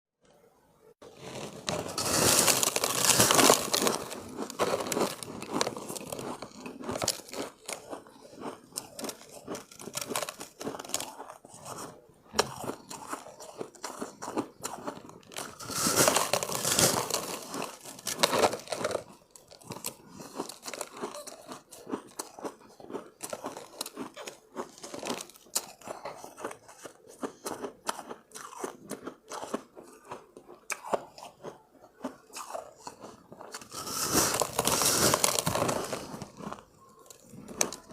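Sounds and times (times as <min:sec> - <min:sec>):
crunching and chewing ice: 0:01.0 - 0:37.9.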